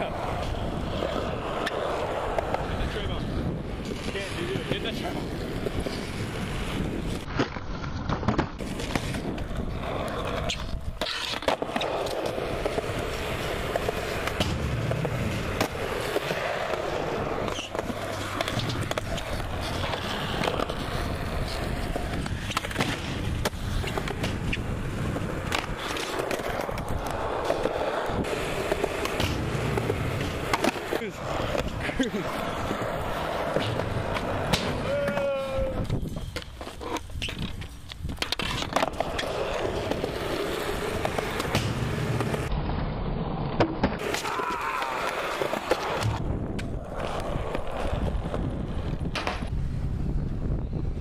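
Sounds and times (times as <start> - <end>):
skateboard clacks: 0.0 - 42.6, 43.5 - 49.6
skateboard wheels rolling on concrete: 0.0 - 51.0.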